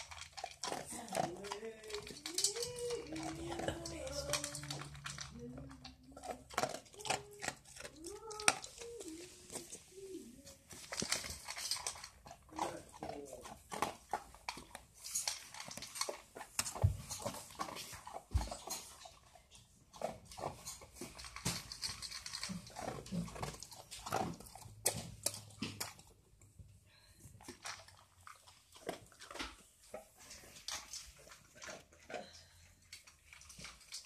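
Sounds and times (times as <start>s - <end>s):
dog chewing: 0.0s - 26.5s, 27.2s - 34.0s.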